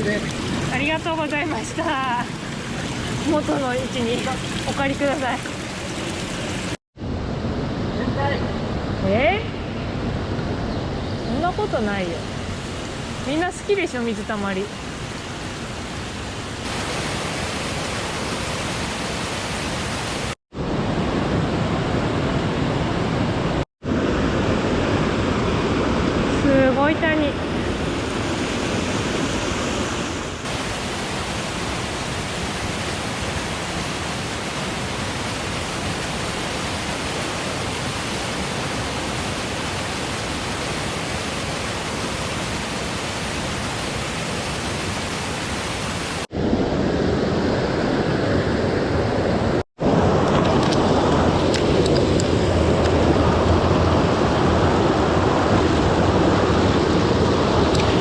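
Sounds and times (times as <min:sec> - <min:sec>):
rushing mountain stream: 0:00.0 - 0:06.8, 0:11.3 - 0:58.0.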